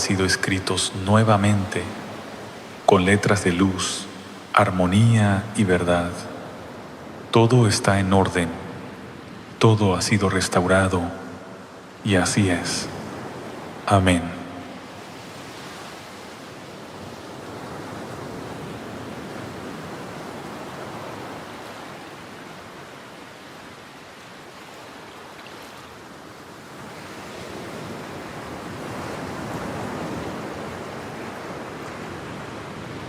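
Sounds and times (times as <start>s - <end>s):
ocean waves washing on shore: 0.0s - 33.0s.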